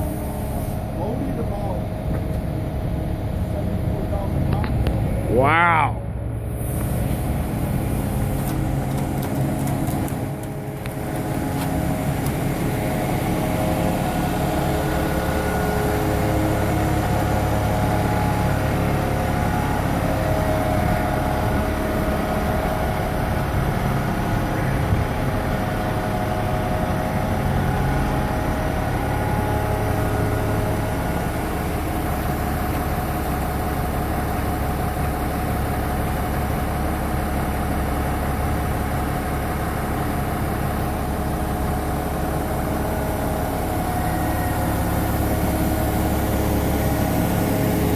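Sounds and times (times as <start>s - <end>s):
diesel truck engine rumbling: 0.0s - 47.9s.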